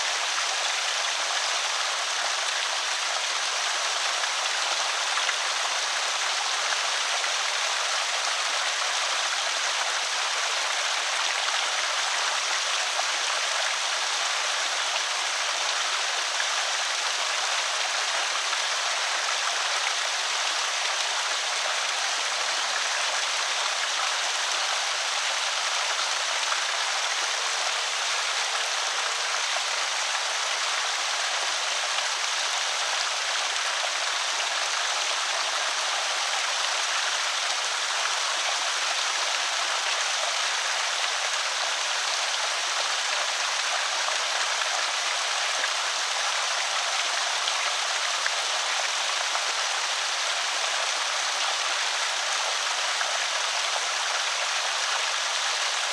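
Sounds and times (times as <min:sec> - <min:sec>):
water pouring over a spillway: 0:00.0 - 0:55.9.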